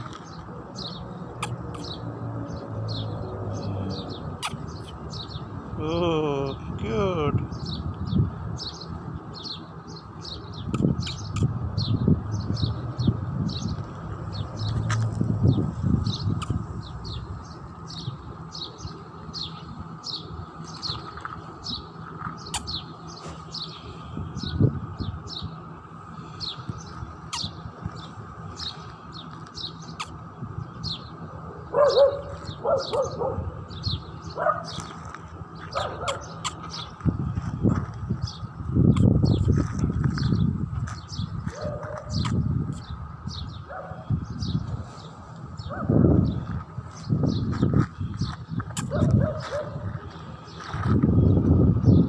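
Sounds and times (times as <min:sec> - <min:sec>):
small birds chirping: 0:00.0 - 0:52.0
low-pitched bird calls: 0:00.1 - 0:06.7, 0:07.4 - 0:37.3, 0:38.2 - 0:50.6.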